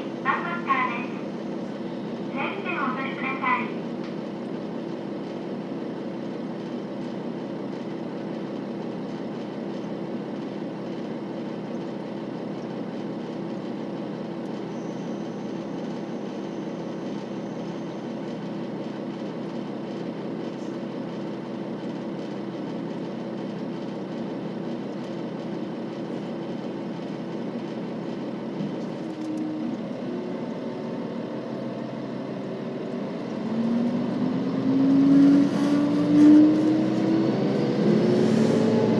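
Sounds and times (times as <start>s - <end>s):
diesel railcar engine idling: 0.0s - 34.8s.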